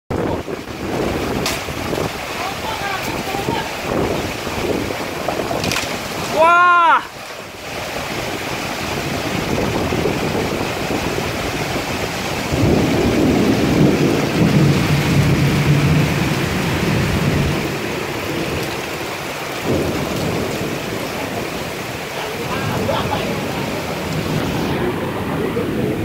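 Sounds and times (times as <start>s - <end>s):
strong wind: 0.1s - 26.0s
torrential rain: 0.1s - 26.0s.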